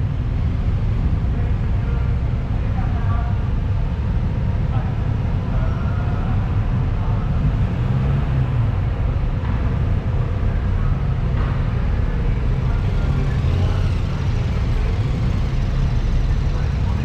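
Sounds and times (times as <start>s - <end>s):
constant noise haze: 0.0s - 17.0s
low engine rumble: 0.0s - 17.0s.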